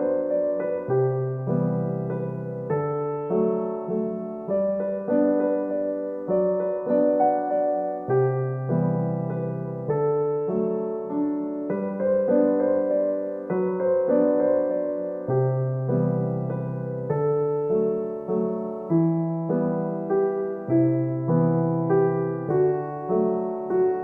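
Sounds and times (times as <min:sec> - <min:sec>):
soft electric piano chords: 0:00.0 - 0:24.0.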